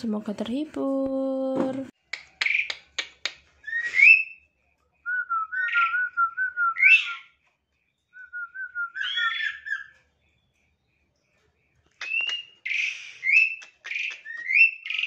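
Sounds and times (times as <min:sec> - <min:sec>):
songbirds singing: 0:02.0 - 0:15.0.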